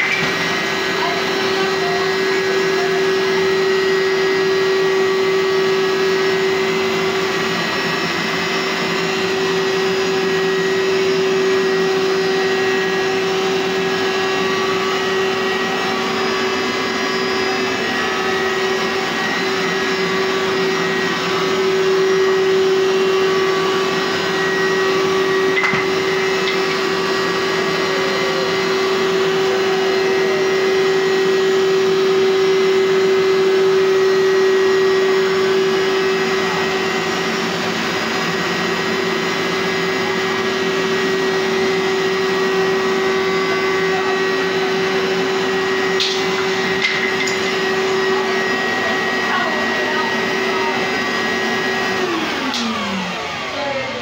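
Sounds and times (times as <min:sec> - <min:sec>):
carpet cleaner motor whine: 0:00.0 - 0:54.0.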